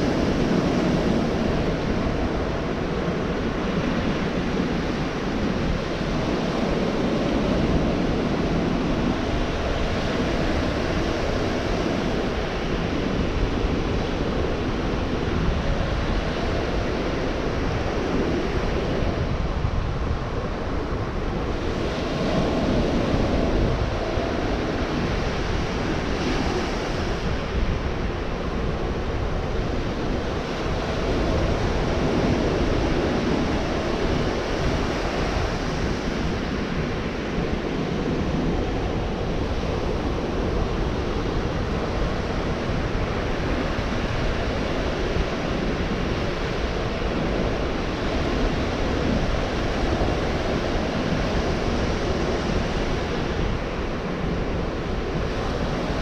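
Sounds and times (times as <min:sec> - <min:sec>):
surf breaking on beach: 0:00.0 - 0:56.0.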